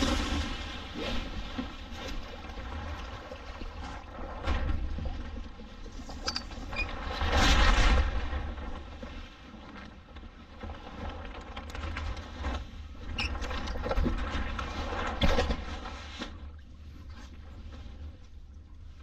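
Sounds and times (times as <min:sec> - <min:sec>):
water rushing along hull: 0:00.0 - 0:19.0.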